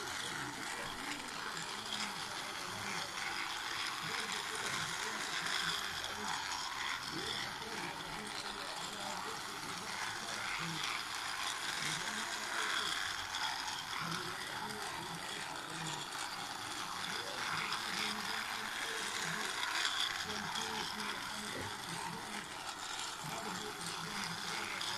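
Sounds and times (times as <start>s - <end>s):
ratcheting rattle: 0.0s - 24.9s
toy train motor whirring: 0.0s - 24.9s.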